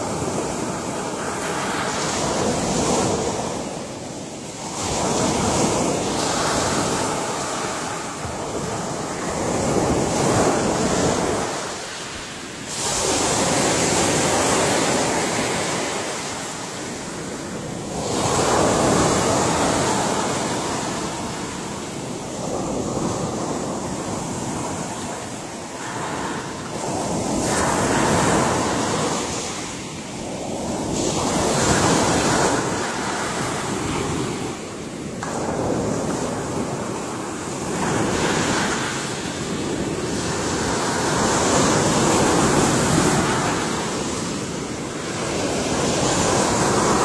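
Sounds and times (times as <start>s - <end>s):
ocean waves breaking on shore: 0.0s - 47.0s
wind noise on microphone: 0.0s - 47.0s.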